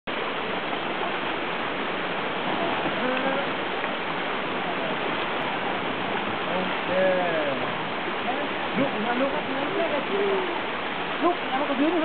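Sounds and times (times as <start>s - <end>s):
faint voices: 2.4s - 12.0s.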